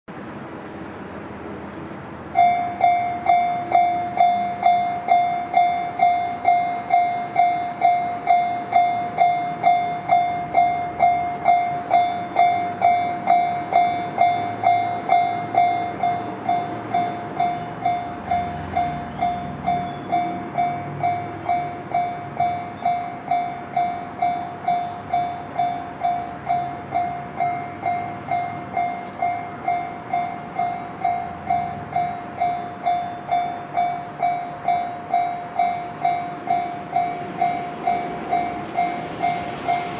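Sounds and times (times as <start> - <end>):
train rumble: 0.1 - 39.9
level crossing bell dinging: 2.4 - 39.9.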